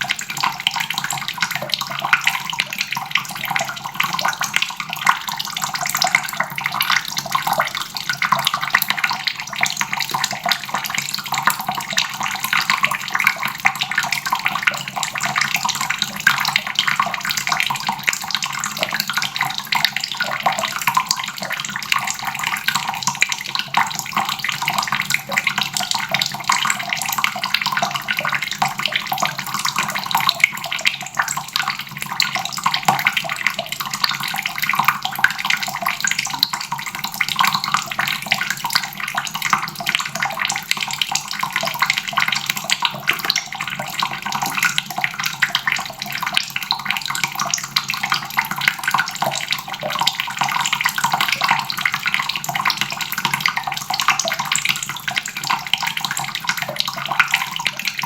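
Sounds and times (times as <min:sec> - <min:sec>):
faucet running into a basin: 0:00.0 - 0:58.0.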